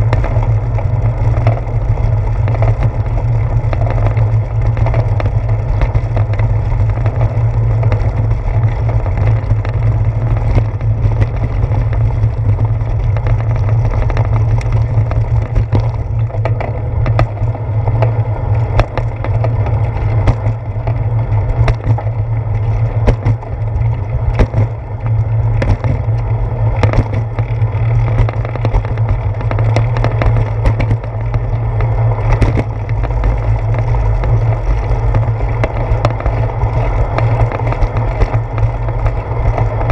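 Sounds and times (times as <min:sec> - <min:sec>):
bicycle rolling over brick pavement: 0:00.0 - 0:39.9.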